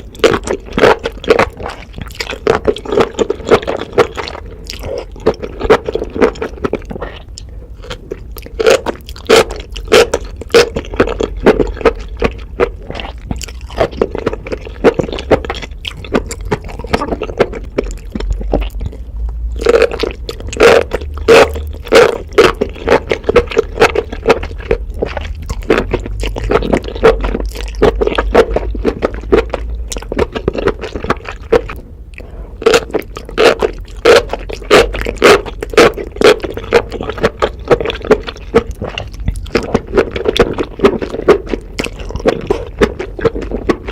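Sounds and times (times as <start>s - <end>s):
chewing mushrooms with wet crackles: 0.0s - 43.9s.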